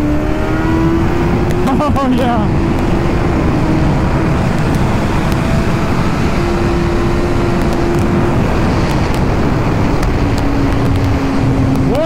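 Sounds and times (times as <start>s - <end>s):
heavy wind rush: 0.0s - 12.0s
motorcycle engine at high revs: 0.0s - 12.0s.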